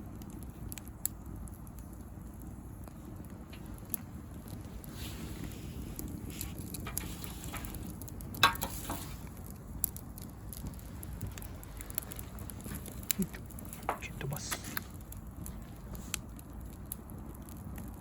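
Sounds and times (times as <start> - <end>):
bonfire crackling: 0.0 - 18.0.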